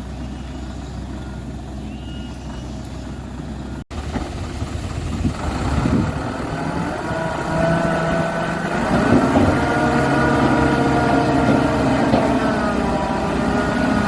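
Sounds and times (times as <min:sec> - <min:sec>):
dump truck motor hum: 0:00.0 - 0:14.0.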